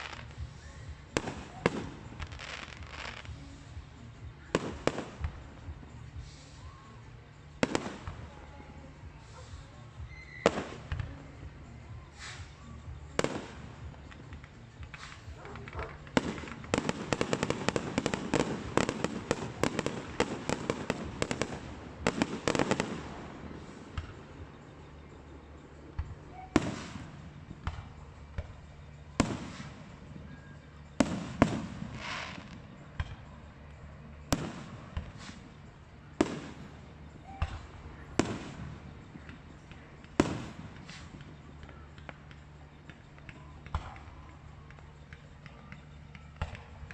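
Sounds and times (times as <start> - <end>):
fireworks bangs: 0.0 - 3.6, 4.5 - 6.8, 7.6 - 8.4, 12.1 - 24.8, 25.5 - 46.9.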